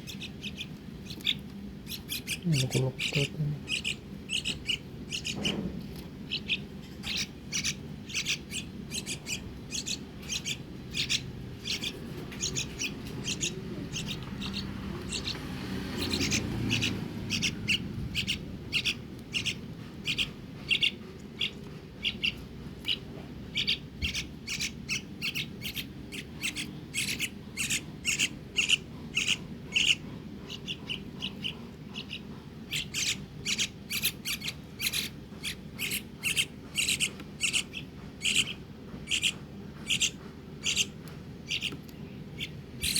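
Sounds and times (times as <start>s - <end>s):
young birds chirping: 0.0s - 42.9s.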